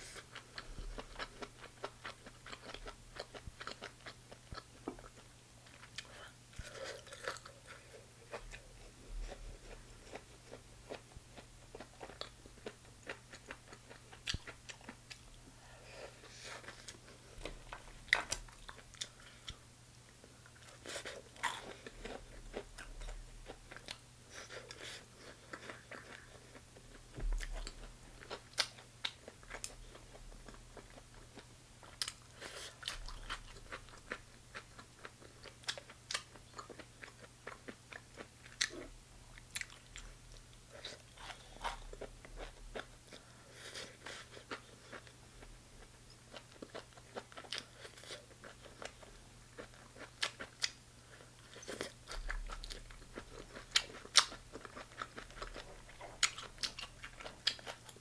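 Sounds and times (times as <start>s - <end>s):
faint steady low hum: 0.0s - 58.0s
crunchy chewing: 0.1s - 15.3s, 20.4s - 58.0s.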